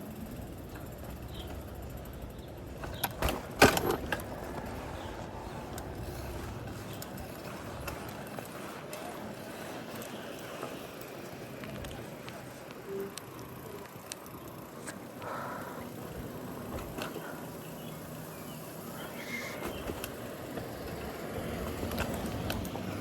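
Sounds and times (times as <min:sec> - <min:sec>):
street and traffic noise: 0:00.0 - 0:23.0.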